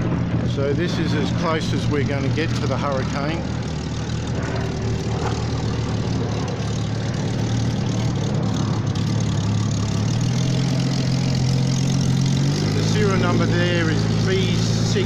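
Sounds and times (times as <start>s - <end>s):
propeller plane engine taxiing: 0.0s - 15.0s.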